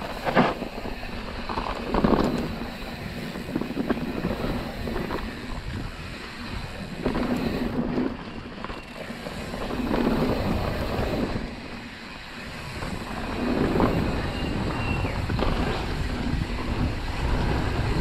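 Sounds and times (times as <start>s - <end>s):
bike rattling: 0.0s - 18.0s
bike tyres on rough ground: 0.0s - 18.0s
wind buffeting microphone: 0.0s - 18.0s.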